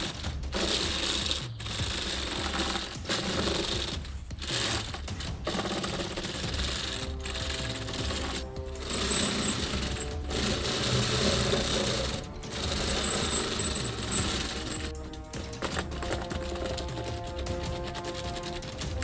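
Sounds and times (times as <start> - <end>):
plastic track links clattering: 0.0 - 19.0.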